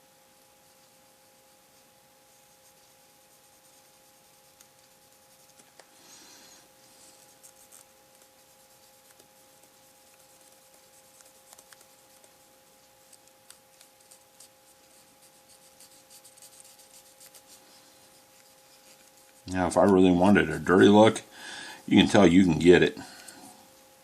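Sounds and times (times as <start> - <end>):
paintbrush scratching on plastic: 0.4 - 5.9, 6.7 - 21.2.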